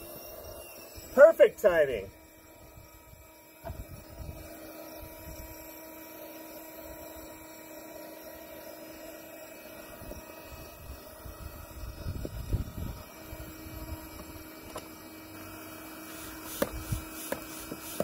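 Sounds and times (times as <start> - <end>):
electric air pump humming: 0.0 - 18.0.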